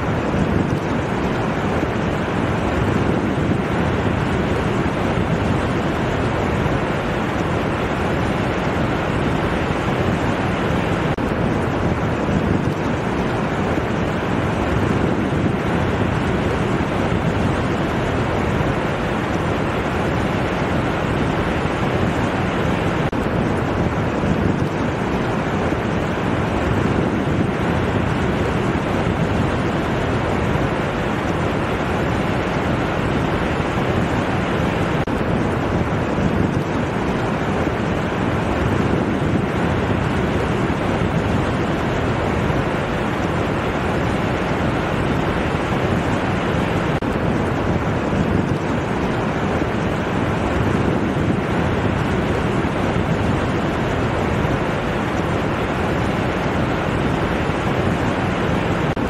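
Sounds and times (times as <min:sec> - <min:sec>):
ocean surf on sandy beach: 0:00.0 - 0:59.0.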